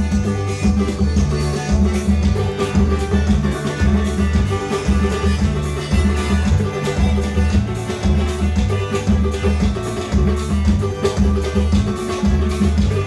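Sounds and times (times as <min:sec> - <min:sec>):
bass line: 0:00.0 - 0:13.0
percussion beat: 0:00.0 - 0:13.0
plucked viola caipira melody: 0:00.0 - 0:13.0.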